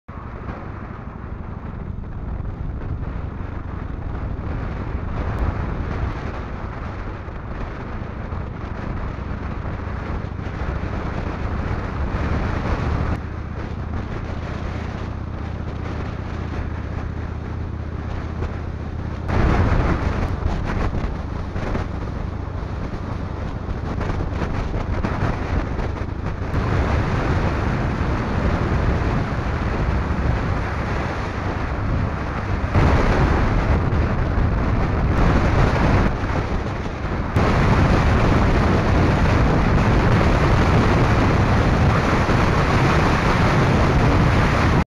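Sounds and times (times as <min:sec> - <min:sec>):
motorcycle engine cruising: 0:00.1 - 0:44.8
wind rushing over microphone: 0:00.1 - 0:44.9.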